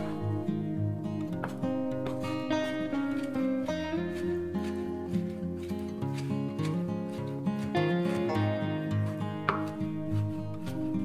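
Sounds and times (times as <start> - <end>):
acoustic guitar tune: 0.0 - 11.0.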